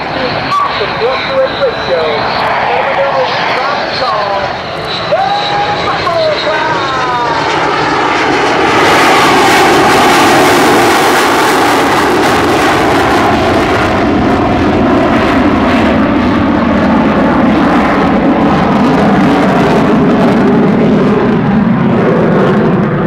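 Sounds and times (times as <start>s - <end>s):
jet engine rushing: 0.0s - 23.0s.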